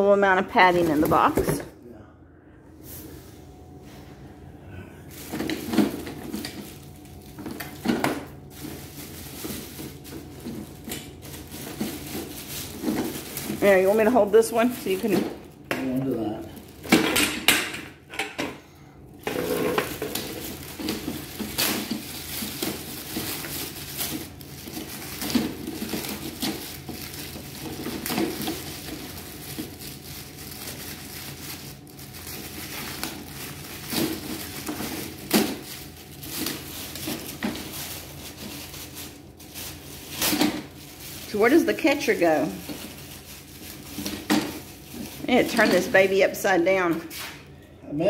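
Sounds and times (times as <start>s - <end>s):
plastic wrapping crinkling: 5.0s - 17.8s, 19.2s - 47.3s.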